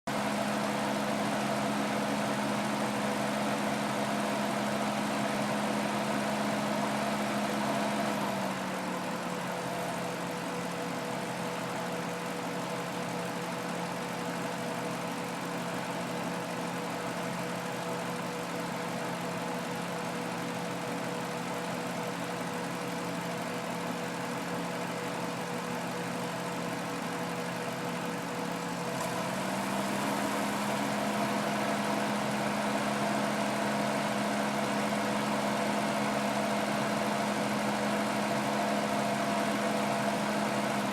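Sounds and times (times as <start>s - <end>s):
car engine idling: 0.1s - 40.9s.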